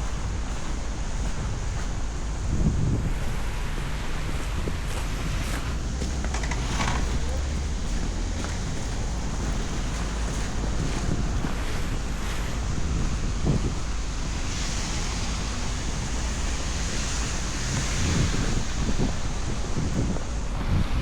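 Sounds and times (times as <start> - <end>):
street rushing hiss: 0.0 - 21.0
wind buffeting microphone: 0.0 - 21.0.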